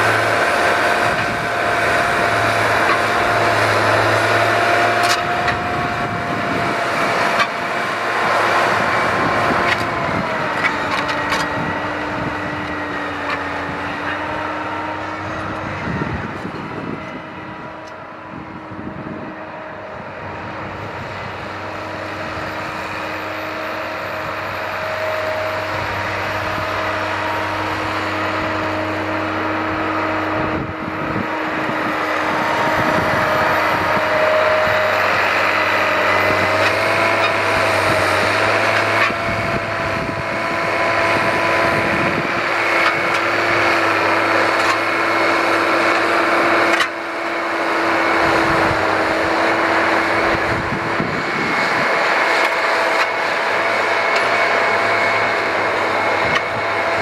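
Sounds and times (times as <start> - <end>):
engine with wavering whine: 0.0 - 57.0.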